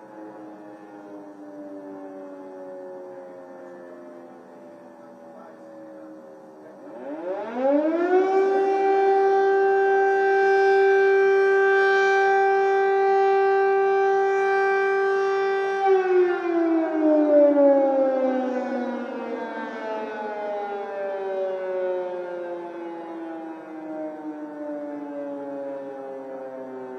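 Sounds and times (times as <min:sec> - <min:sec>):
air-raid siren wailing: 0:00.0 - 0:26.9.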